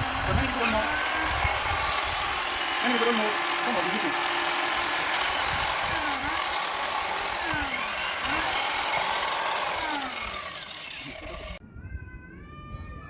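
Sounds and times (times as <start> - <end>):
machine whirring: 0.0 - 11.6.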